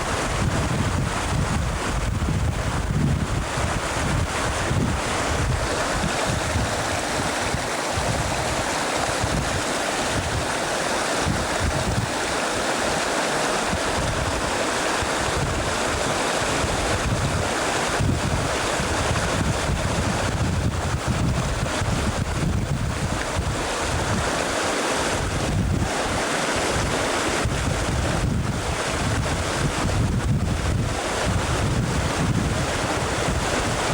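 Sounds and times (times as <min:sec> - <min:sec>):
river water rushing: 0:00.0 - 0:33.9
wind buffeting microphone: 0:00.0 - 0:33.9.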